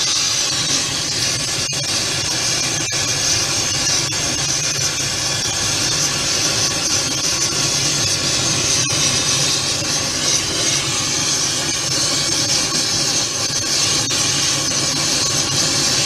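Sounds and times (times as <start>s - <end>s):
welding torch flame hissing: 0.0s - 16.0s.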